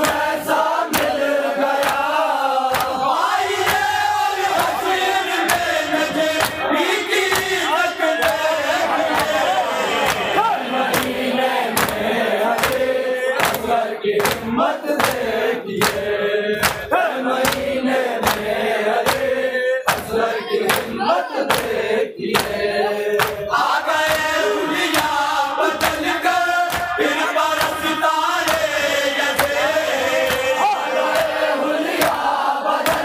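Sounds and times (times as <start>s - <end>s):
men chanting in unison: 0.0s - 33.0s
rhythmic chest-beating: 0.0s - 33.0s.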